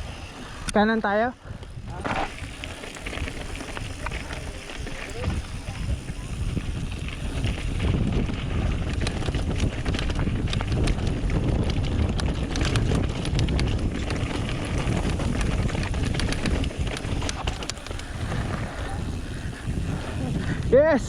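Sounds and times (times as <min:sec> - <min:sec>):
bike clicks and rattles: 0:00.0 - 0:21.0
bike tyre rumble on dirt: 0:00.0 - 0:21.0
wind on microphone: 0:00.0 - 0:21.0.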